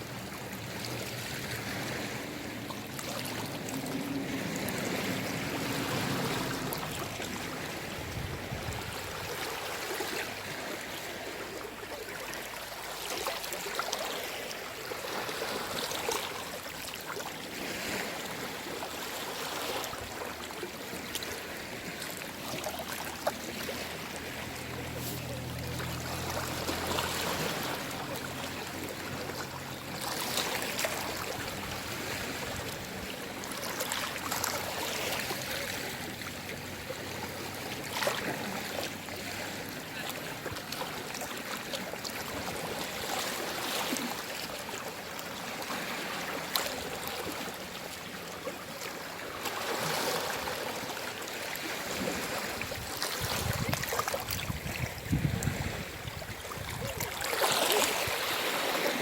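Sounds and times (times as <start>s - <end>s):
sea waves lapping on shore: 0.0s - 59.0s.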